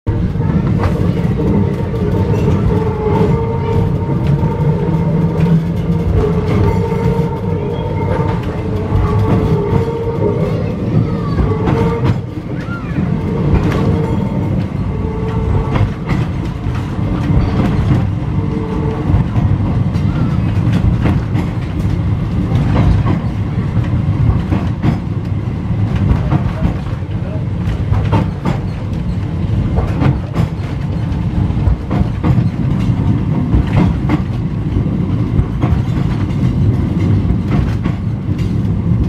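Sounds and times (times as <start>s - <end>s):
tram rumbling along track: 0.0s - 39.0s
wheels clacking over rail joints: 0.1s - 39.0s.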